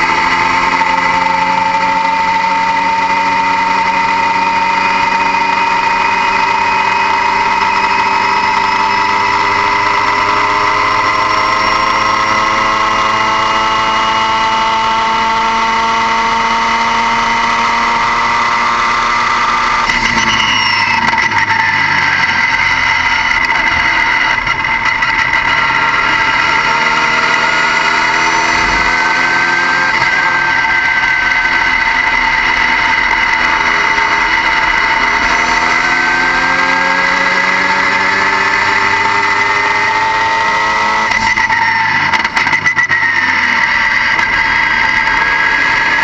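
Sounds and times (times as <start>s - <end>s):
vehicle engine whining: 0.0s - 46.0s.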